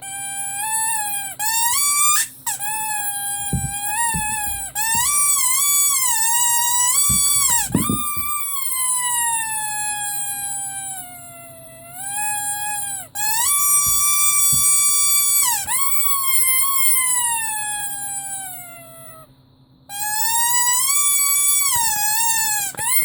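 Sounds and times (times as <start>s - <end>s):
rubber squeaky toy squeaking: 0.0s - 19.3s, 19.9s - 23.0s.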